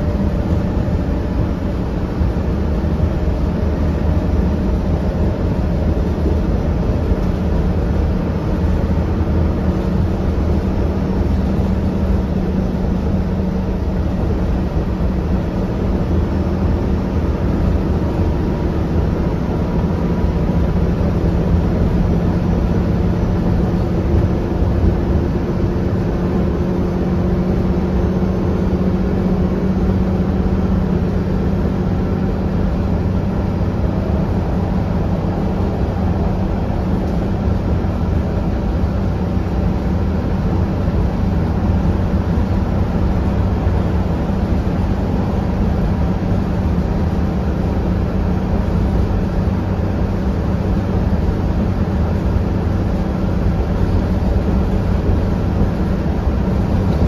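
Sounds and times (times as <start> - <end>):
bus diesel engine drone: 0.0 - 57.0
road and body rumble: 0.0 - 57.0.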